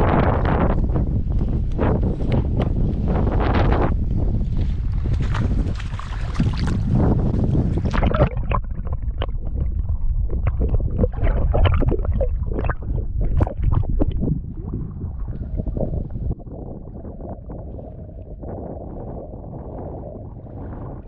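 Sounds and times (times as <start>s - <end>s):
wind buffeting microphone: 0.0s - 21.0s
water splashing and gurgling: 3.1s - 21.0s.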